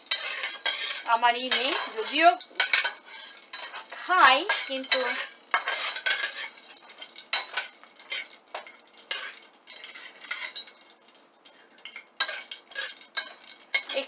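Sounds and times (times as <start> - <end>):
spatula scraping frying pan: 0.0 - 14.0
spices sizzling in hot oil: 0.0 - 14.0.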